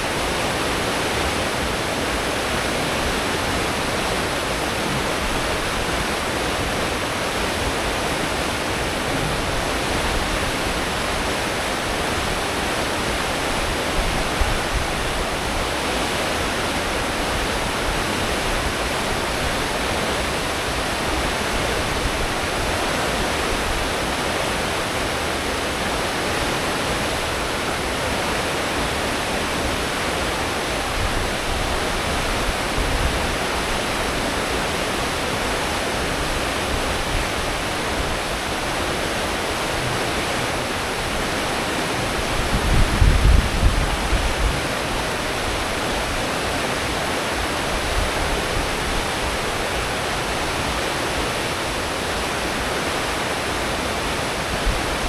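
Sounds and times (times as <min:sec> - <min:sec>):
wake water rushing hiss: 0:00.0 - 0:55.0.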